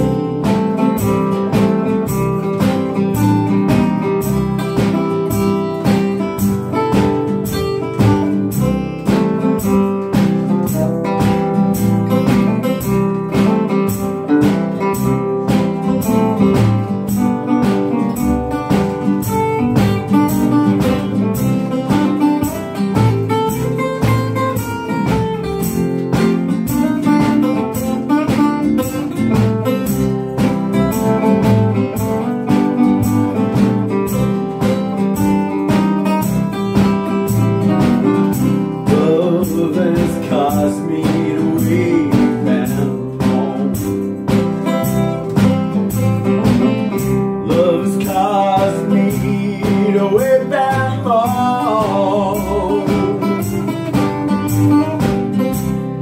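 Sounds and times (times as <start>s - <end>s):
acoustic guitar strumming: 0.0s - 56.0s
plucked bass line: 0.0s - 56.0s
resonator guitar lead: 0.0s - 56.0s.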